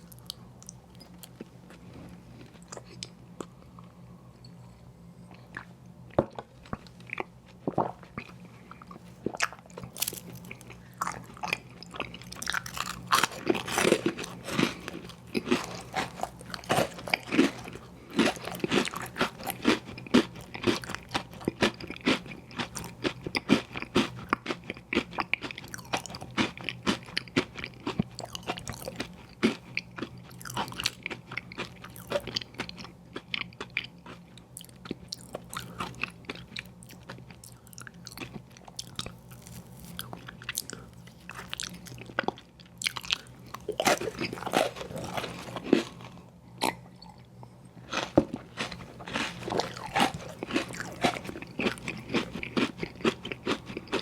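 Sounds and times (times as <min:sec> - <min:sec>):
chewing and crunching: 0:00.0 - 0:54.0
faint low hum: 0:00.0 - 0:54.0.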